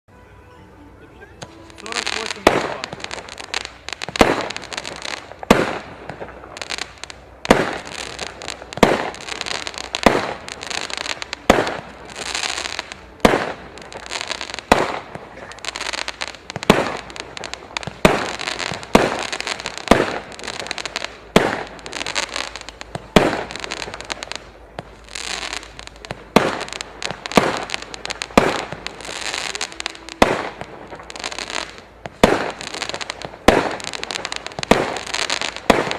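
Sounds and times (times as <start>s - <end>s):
fireworks bangs: 1.2s - 35.9s
fireworks hissing and crackling: 1.2s - 35.9s.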